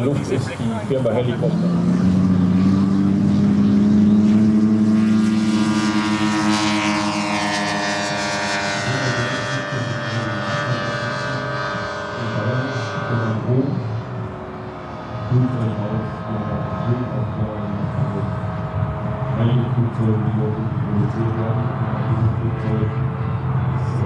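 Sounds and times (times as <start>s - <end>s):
high turbine whine: 0.0s - 24.0s
model aircraft propeller drone: 0.0s - 24.0s.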